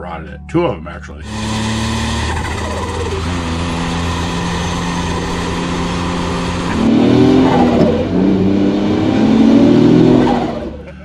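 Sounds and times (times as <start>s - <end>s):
truck engine revving: 1.2s - 11.0s.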